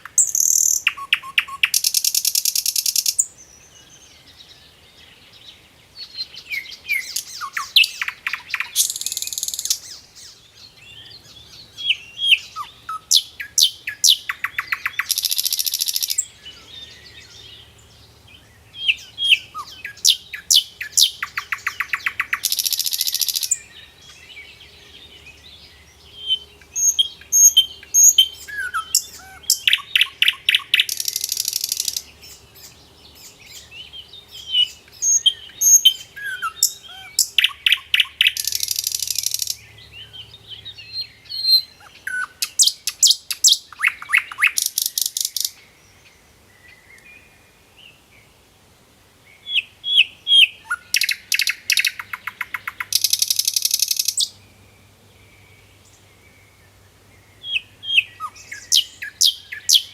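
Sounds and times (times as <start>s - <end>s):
bird chirping and trilling: 0.0s - 4.0s, 6.0s - 17.7s, 18.7s - 24.2s, 25.9s - 45.6s, 49.4s - 54.4s, 57.4s - 59.9s.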